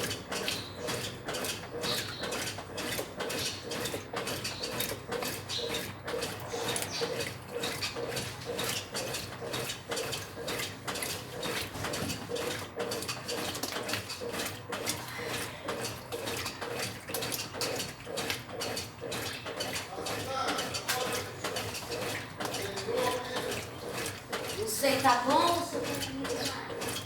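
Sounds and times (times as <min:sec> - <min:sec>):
washing machine sloshing and churning: 0:00.0 - 0:27.0.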